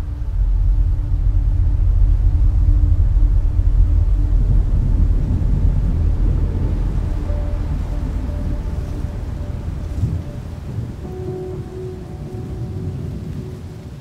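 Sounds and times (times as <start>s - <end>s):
deep rumble: 0.0s - 14.0s
faint hum: 0.0s - 14.0s.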